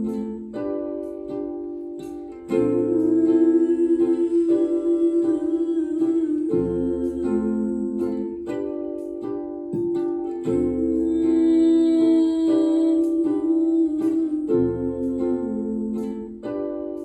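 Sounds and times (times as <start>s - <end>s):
plucked string chords: 0.0s - 17.0s.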